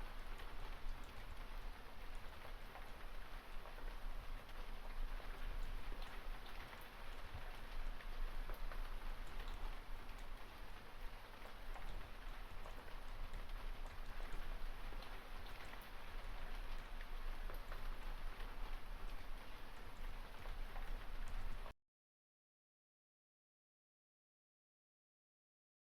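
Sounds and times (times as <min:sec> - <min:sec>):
steady rain falling: 0:00.0 - 0:21.8.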